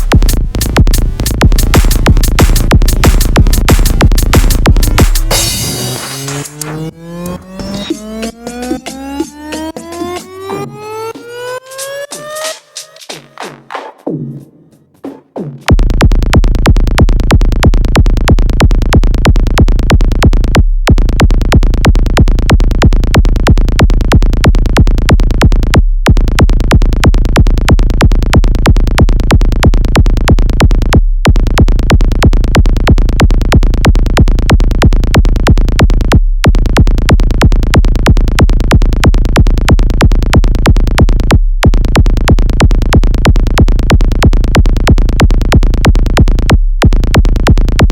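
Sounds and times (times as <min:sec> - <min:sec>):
fast electronic music: 0:00.0 - 0:47.9.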